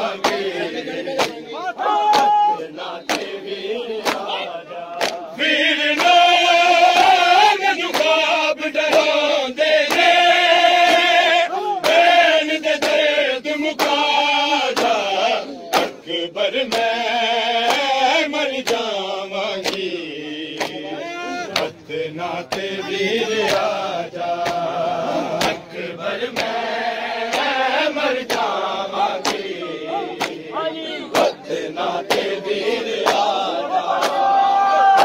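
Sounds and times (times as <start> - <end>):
crowd of men chanting: 0.0 - 35.0.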